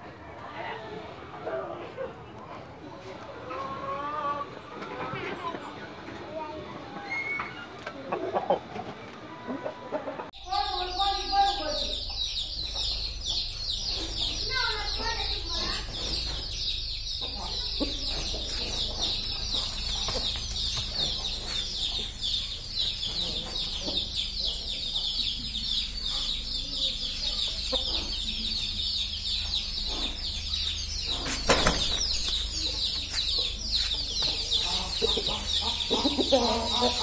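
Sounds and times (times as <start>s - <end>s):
chicks cheeping: 1.4s - 37.0s.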